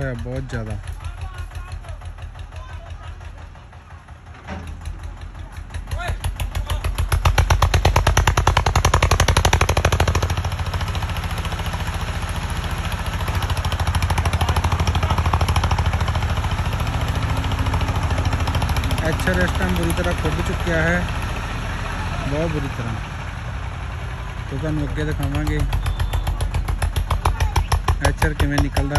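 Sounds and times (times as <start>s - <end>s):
tractor diesel engine labouring: 0.0s - 28.9s.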